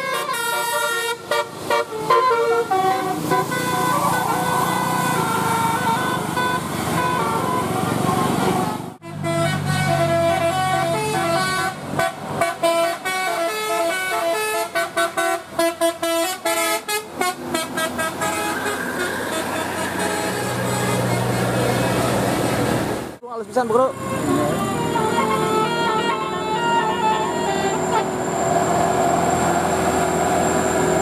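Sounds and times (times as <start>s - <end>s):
musical air horn playing tune: 0.0s - 22.1s, 23.9s - 28.9s.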